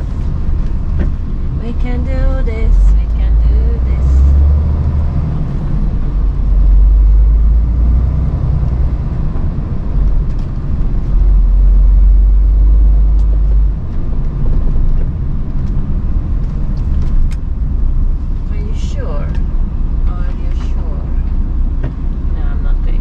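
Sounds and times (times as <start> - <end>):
lorry diesel engine rumbling: 0.0 - 23.0.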